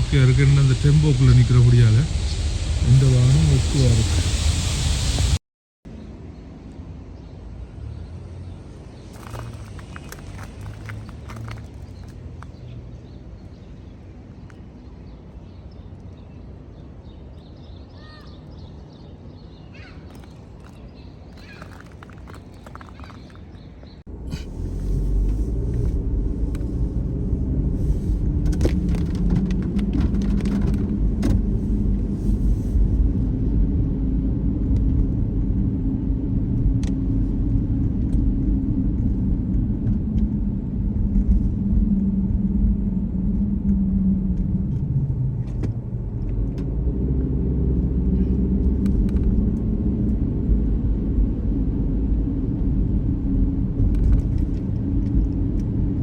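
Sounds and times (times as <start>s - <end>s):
car engine and road rumble: 0.0s - 17.5s, 19.2s - 56.0s.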